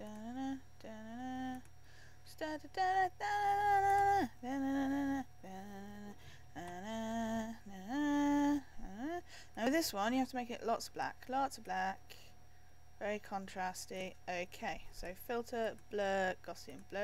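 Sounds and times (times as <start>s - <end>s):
woman singing wordless tune: 0.0s - 12.3s, 13.0s - 17.0s.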